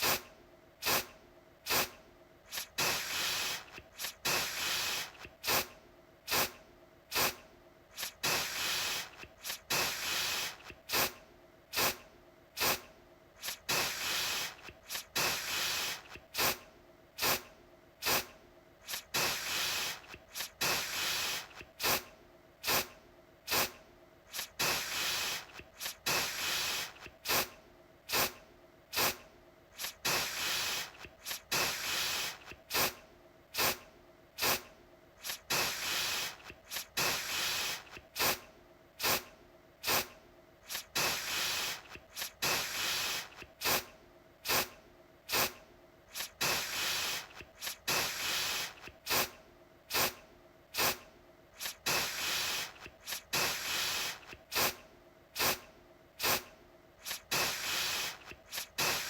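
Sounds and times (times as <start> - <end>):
aerosol spray hissing: 0.0 - 0.2, 0.8 - 1.1, 1.7 - 5.7, 6.3 - 12.0, 12.6 - 16.6, 17.2 - 22.9, 23.5 - 29.2, 29.8 - 33.0, 33.6 - 33.8, 34.4 - 38.4, 39.0 - 50.2, 50.8 - 51.0, 51.6 - 54.8, 55.4 - 55.6, 56.2 - 59.0.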